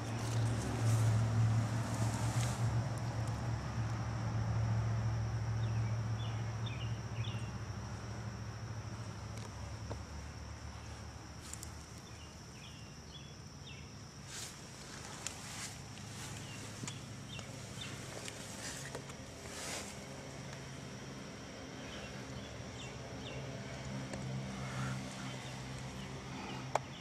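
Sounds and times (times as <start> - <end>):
insects buzzing: 0.0 - 27.0.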